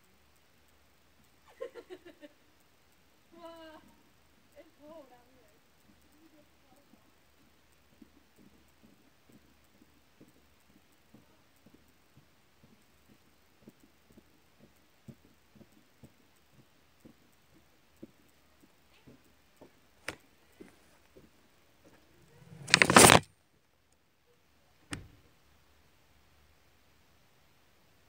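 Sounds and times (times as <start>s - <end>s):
faint small ticks: 0.0s - 25.8s.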